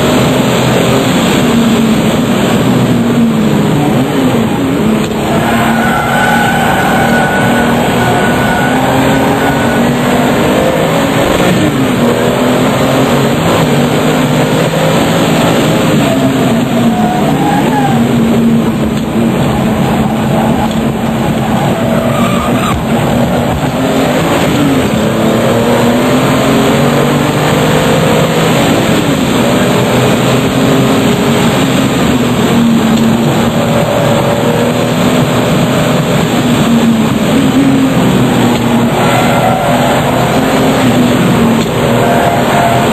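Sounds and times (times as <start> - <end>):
sports car engine driven hard: 0.0 - 42.9.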